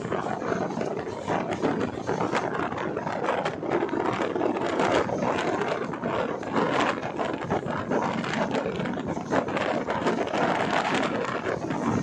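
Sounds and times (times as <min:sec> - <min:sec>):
train clattering and rattling: 0:00.0 - 0:12.0
train wheels rumbling on rails: 0:00.0 - 0:12.0.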